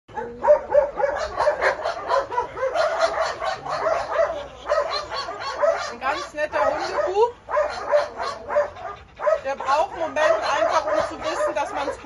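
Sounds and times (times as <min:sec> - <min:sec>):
many dogs barking: 0:00.1 - 0:12.0.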